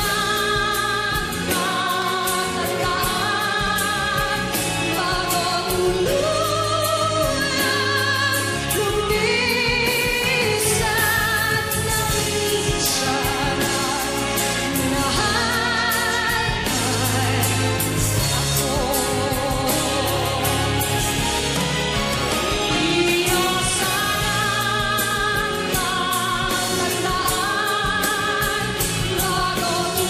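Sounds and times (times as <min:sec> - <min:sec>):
band with steady beat: 0:00.0 - 0:30.0
woman singing with vibrato: 0:00.0 - 0:30.0.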